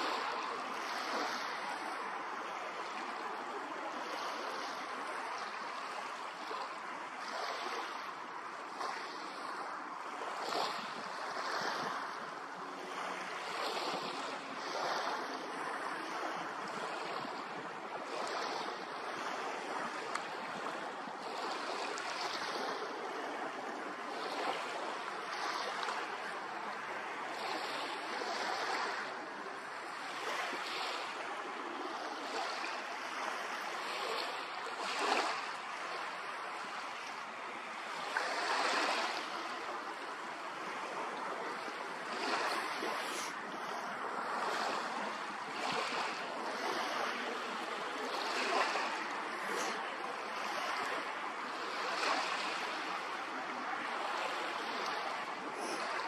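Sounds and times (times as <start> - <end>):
small waves washing in: 0.0 - 56.0
wind: 0.0 - 56.0.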